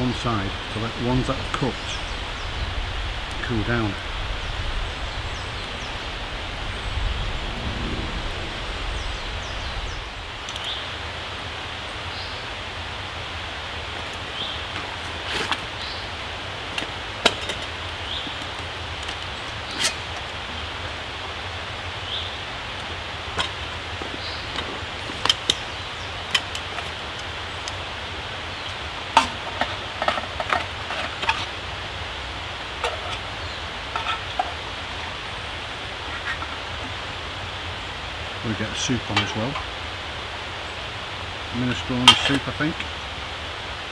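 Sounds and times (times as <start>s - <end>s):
stream rushing: 0.0s - 43.9s.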